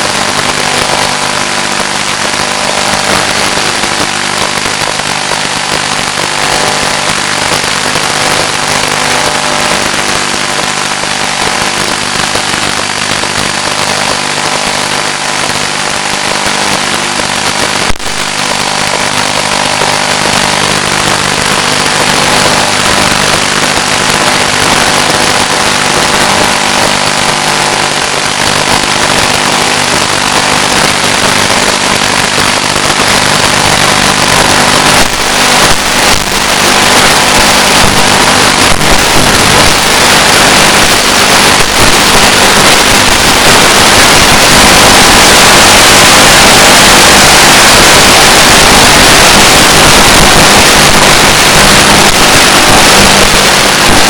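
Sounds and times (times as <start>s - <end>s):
radio static hiss: 0.0s - 54.0s.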